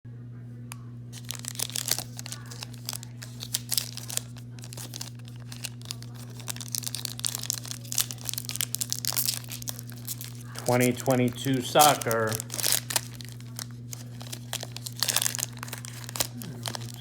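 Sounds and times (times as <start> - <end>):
steady low hum: 0.1 - 17.0
wrapper tearing and crinkling: 1.1 - 17.0.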